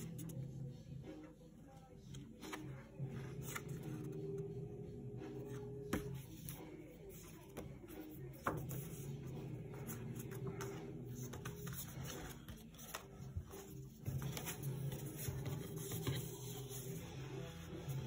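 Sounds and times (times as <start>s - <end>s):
paper and card rustling: 2.1s - 4.4s, 5.4s - 18.0s.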